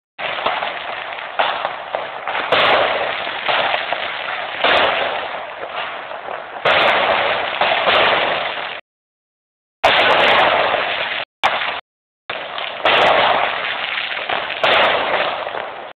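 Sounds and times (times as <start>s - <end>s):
fireworks bursting: 0.2s - 8.8s, 9.8s - 15.9s
fireworks crackle: 0.2s - 8.8s, 9.8s - 15.9s.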